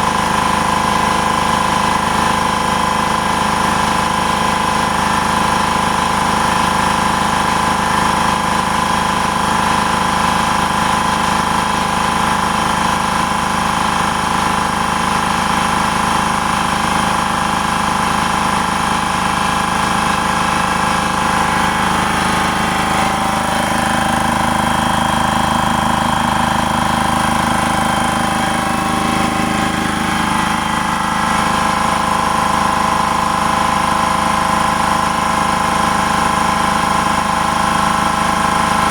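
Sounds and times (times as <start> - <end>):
electric air compressor running: 0.0 - 38.9.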